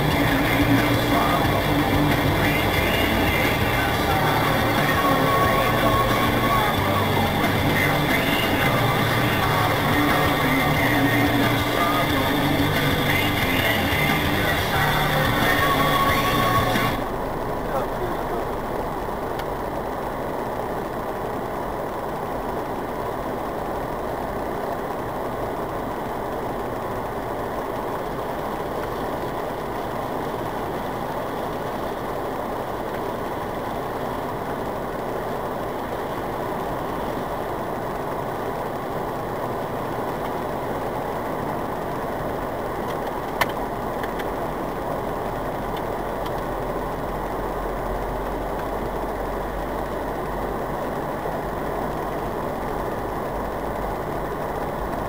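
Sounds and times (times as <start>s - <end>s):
car running noise inside cabin: 0.0s - 55.0s.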